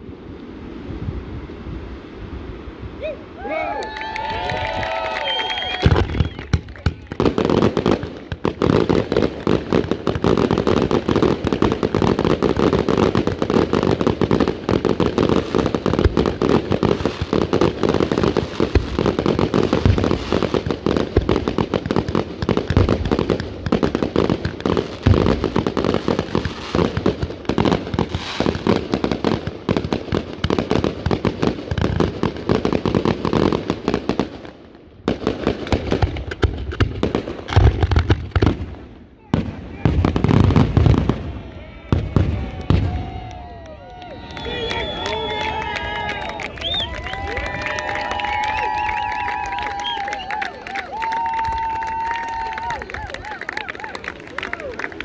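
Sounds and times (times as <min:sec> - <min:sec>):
fireworks bangs and crackling: 0:04.0 - 0:55.0.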